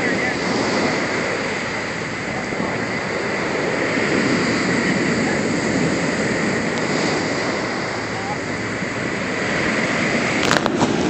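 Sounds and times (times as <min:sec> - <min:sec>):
storm surf waves breaking: 0:00.0 - 0:11.0.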